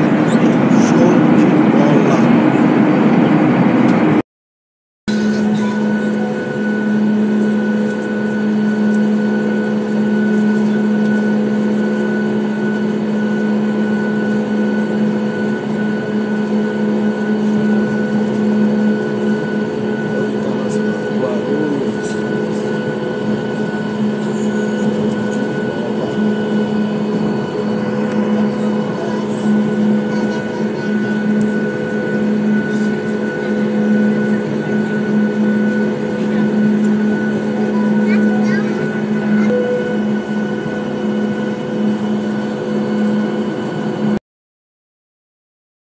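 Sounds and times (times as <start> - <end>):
jet engines humming at idle: 0.0 - 4.2, 5.1 - 44.2.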